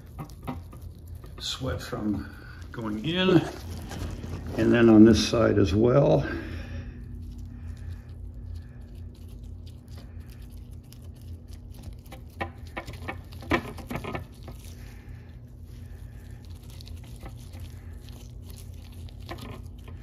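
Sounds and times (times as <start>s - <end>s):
greasy crackling and rubbing: 0.0s - 20.0s
steady low hum: 0.0s - 20.0s.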